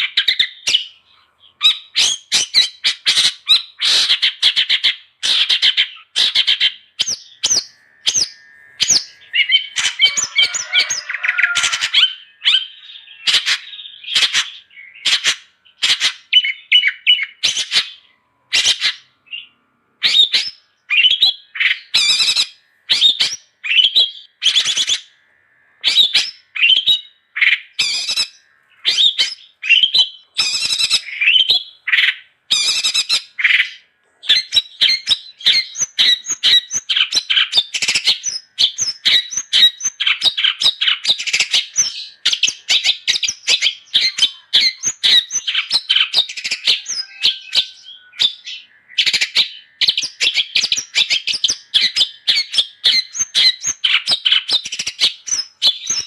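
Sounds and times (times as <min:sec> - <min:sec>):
bird harsh chattering call: 0:00.0 - 0:56.0.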